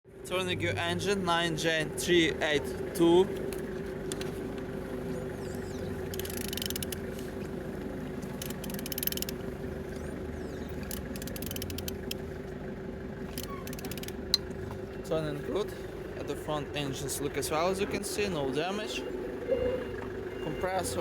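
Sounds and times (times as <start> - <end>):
engine rapid clicking: 0.3 - 21.0.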